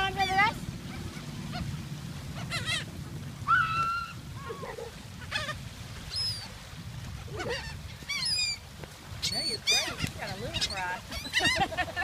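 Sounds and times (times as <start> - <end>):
seagulls squawking: 0.0 - 6.6, 7.2 - 12.0.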